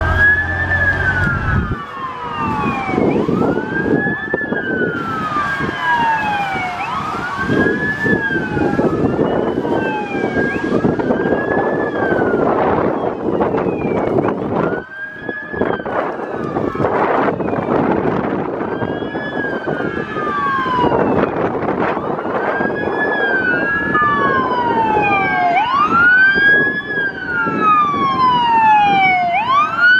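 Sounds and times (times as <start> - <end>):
heavy vehicle rumble: 0.0 - 29.9.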